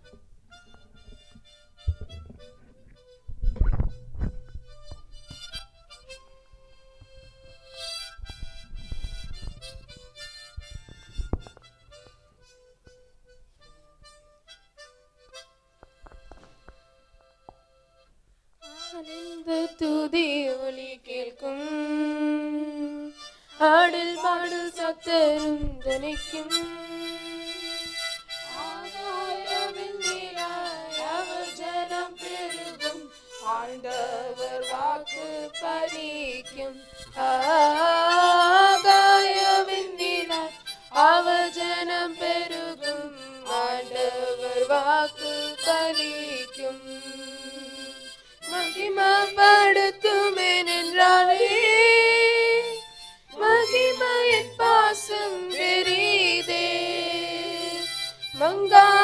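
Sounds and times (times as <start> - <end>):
harmonica melody: 0.0 - 59.0.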